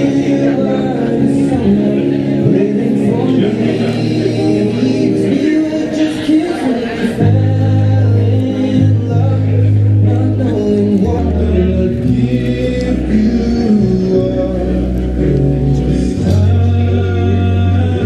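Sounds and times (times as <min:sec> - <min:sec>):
group singing: 0:00.0 - 0:18.0
slow bass notes: 0:00.0 - 0:18.0.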